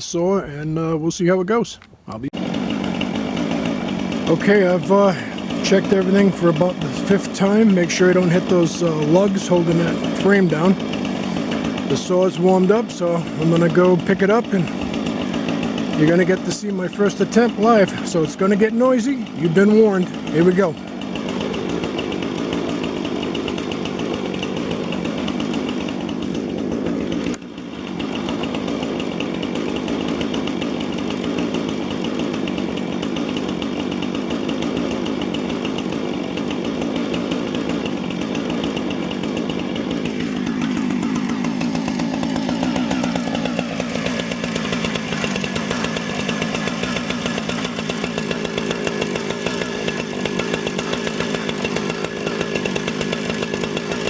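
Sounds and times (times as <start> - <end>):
chainsaw cutting through log: 2.1 - 54.0.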